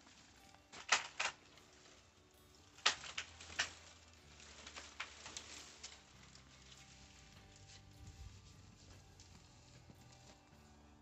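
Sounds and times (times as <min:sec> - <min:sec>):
dry wood cracking and snapping: 0:00.0 - 0:10.5
quiet crackling: 0:00.0 - 0:11.0.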